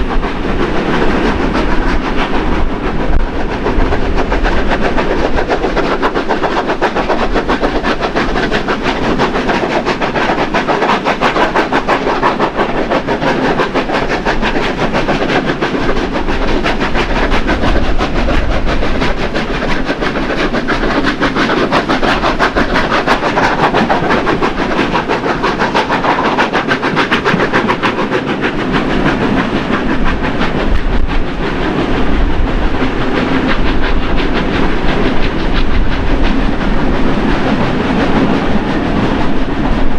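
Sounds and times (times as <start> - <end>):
steam locomotive exhaust chuffing: 0.0 - 39.9
train wheels clattering on rails: 0.0 - 39.9.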